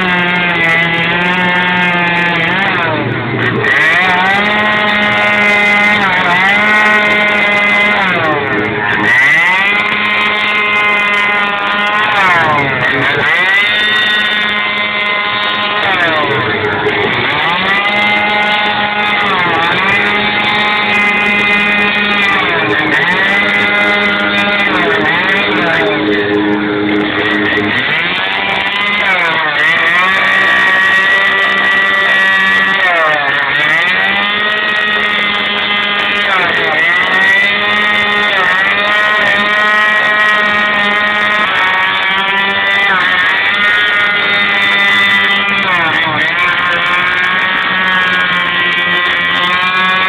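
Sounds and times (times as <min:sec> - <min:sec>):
chainsaw cutting wood: 0:00.0 - 0:50.0
low drone: 0:00.0 - 0:50.0.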